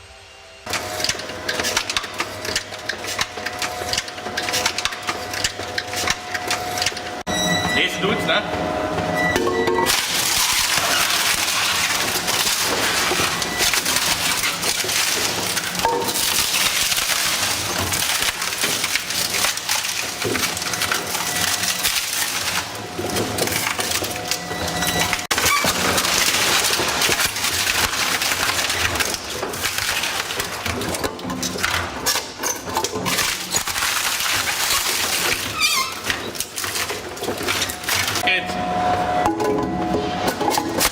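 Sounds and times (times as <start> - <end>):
shredder machine low hum: 0.0 - 40.9
wood splintering and crushing: 0.7 - 7.2, 9.3 - 38.4, 39.3 - 40.9.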